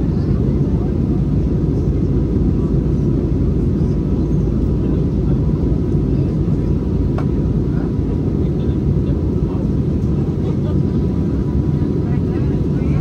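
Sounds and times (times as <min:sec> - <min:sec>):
airliner engine rumble in cabin: 0:00.0 - 0:13.0.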